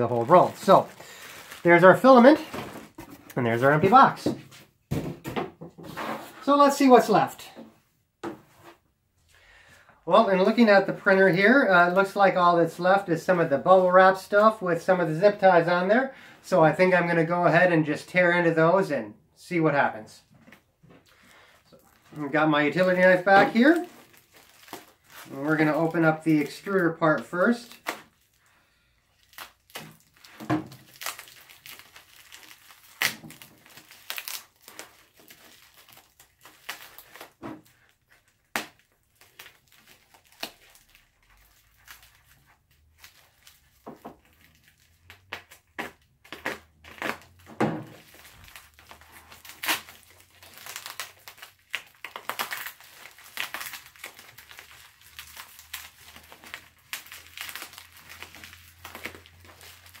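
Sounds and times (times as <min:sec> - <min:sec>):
bubble wrap crinkling and crackling: 0:00.0 - 0:04.9, 0:10.1 - 0:15.6, 0:20.6 - 1:00.0.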